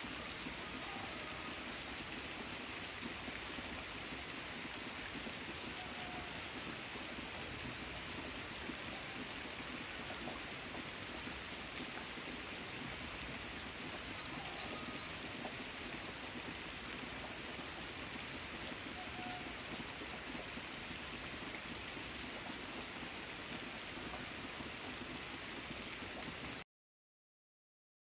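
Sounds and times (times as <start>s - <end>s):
rain on leaves: 0.0s - 26.6s.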